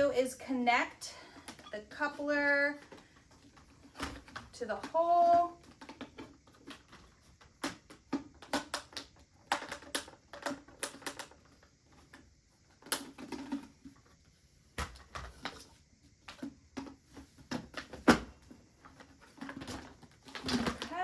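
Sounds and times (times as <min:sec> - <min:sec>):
plastic parts clicking and knocking: 0:02.7 - 0:14.2, 0:14.8 - 0:21.0.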